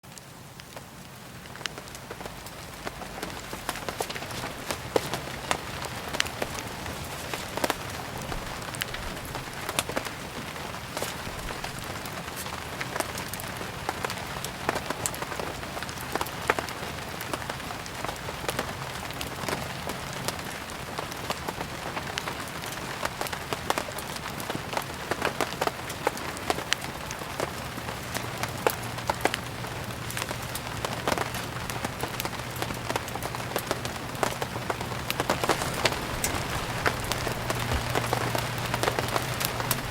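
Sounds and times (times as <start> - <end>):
steady rain falling: 0.0 - 39.9
wood fire crackling: 0.1 - 39.9.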